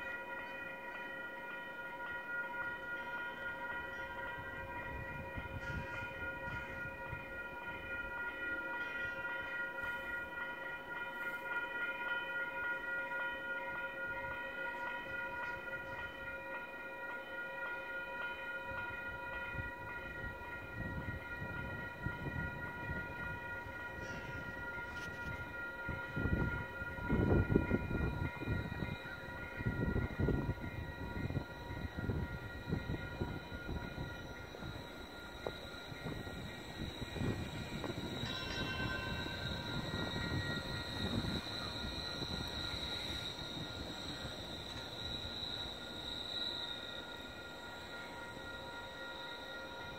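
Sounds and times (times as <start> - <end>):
light rail electric whine: 0.0 - 49.9
light rail low rumble: 0.0 - 49.9.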